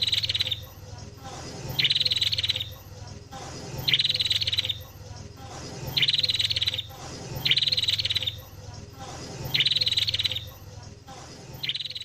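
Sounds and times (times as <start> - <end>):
bulbul song: 0.0 - 10.8, 11.4 - 12.0
low steady hum: 0.0 - 12.0
prinia calls: 0.0 - 12.0.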